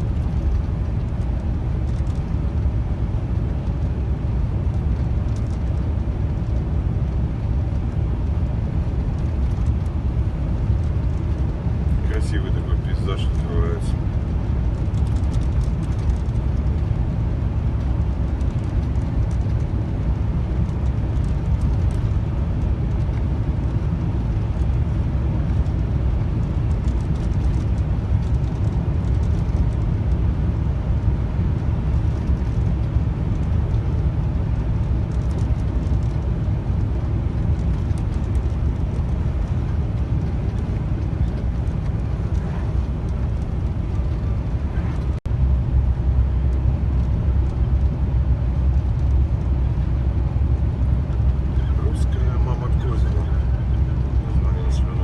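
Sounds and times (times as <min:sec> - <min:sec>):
truck engine and tyres droning: 0:00.0 - 0:55.0.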